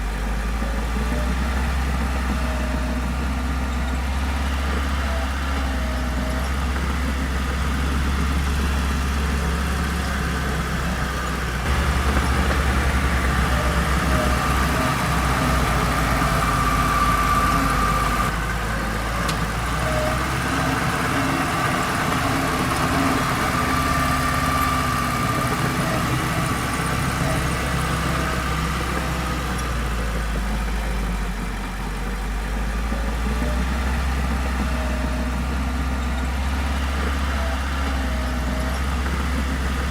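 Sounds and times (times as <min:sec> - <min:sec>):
diesel machinery engine: 0:00.0 - 0:39.9.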